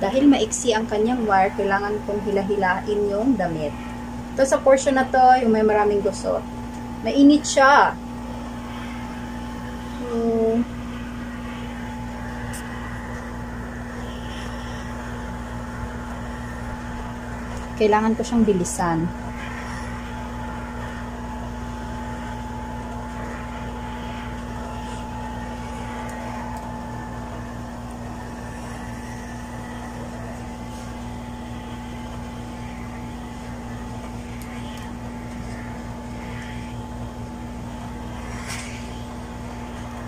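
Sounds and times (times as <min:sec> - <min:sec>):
garment steamer humming: 0:00.0 - 0:40.0.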